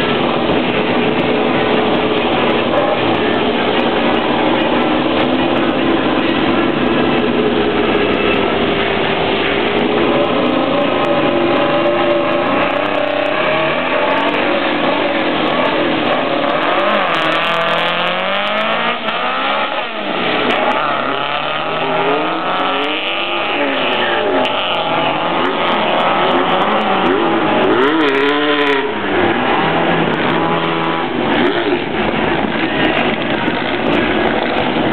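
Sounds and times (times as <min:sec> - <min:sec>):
car engines revving and accelerating: 0:00.0 - 0:34.9.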